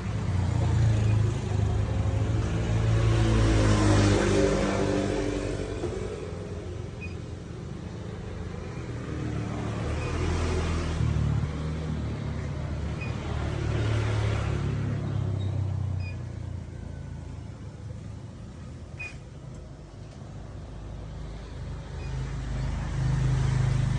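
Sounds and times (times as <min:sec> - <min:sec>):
engine humming: 0:00.0 - 0:23.9
vehicles passing: 0:00.0 - 0:23.9.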